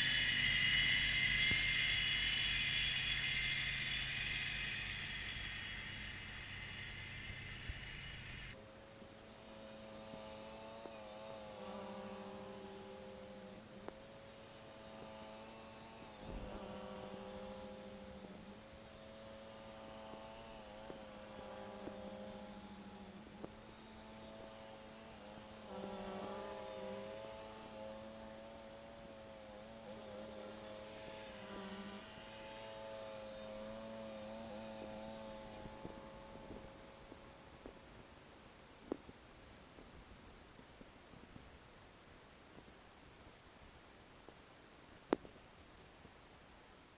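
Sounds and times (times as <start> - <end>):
hiss: 0.0 - 42.0.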